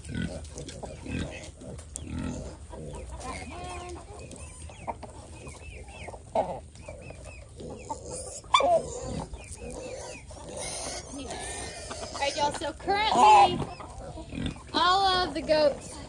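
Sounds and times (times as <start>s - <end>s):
chickens clucking and calling: 0.0s - 16.0s.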